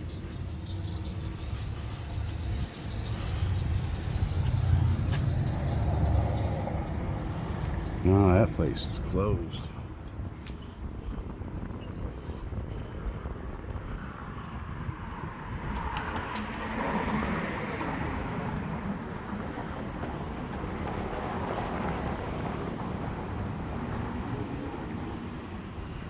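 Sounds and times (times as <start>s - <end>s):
vehicle passing: 0.0s - 9.7s, 14.0s - 26.0s
low traffic rumble: 0.0s - 26.0s.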